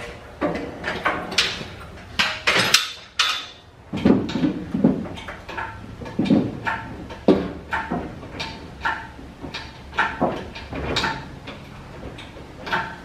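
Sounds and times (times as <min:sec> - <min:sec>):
metal clanks and rattles: 0:00.0 - 0:13.0.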